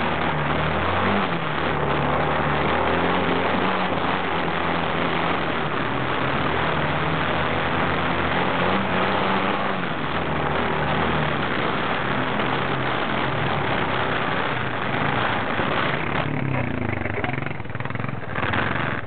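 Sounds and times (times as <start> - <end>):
quad bike engine under load: 0.0 - 19.0
steady rushing noise: 0.0 - 19.0.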